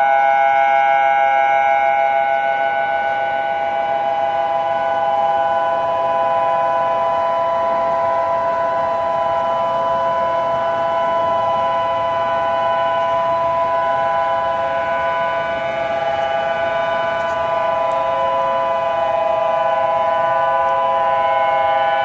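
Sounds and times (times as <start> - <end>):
electronic alarm tone: 0.0 - 22.0.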